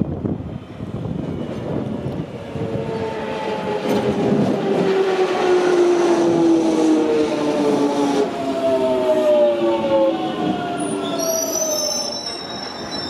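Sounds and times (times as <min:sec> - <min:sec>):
falling multi-tone train whine: 0:00.0 - 0:13.0
train wheels rumbling on rail: 0:00.0 - 0:13.0.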